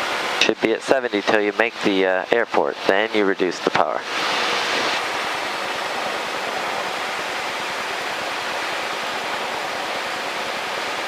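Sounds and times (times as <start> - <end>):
small plane cockpit engine hiss: 0.0 - 11.0.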